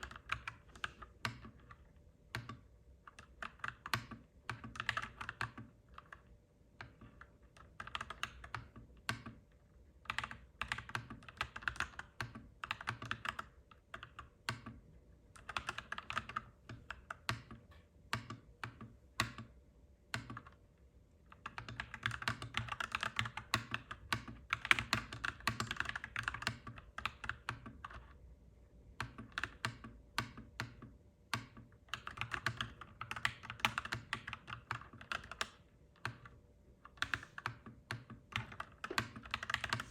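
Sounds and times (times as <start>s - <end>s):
mechanical keyboard typing: 0.0s - 9.4s, 10.0s - 14.8s, 15.4s - 20.6s, 21.3s - 28.2s, 29.0s - 39.9s
faint steady hum: 0.0s - 39.9s.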